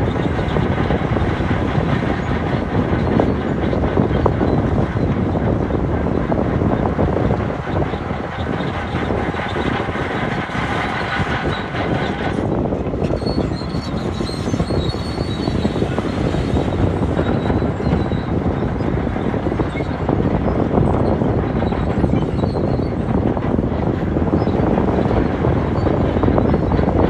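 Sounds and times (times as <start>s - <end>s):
diesel engine under load: 0.0s - 27.0s
steel tracks clattering: 0.0s - 27.0s.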